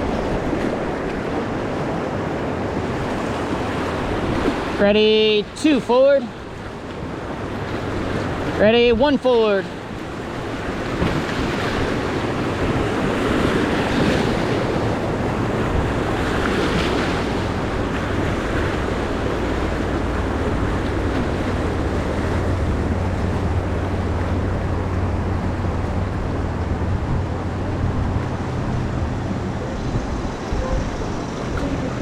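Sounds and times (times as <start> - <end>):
whitewater rushing and splashing: 0.0 - 32.0
wind buffeting microphone: 0.0 - 32.0.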